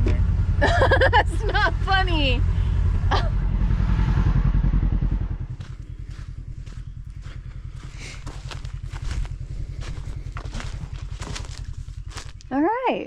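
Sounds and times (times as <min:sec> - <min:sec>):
engine idling rumble: 0:00.0 - 0:13.0.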